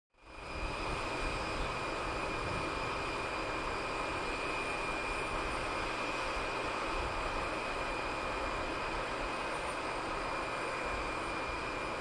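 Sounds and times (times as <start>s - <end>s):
jet engines whining: 0.2s - 12.0s.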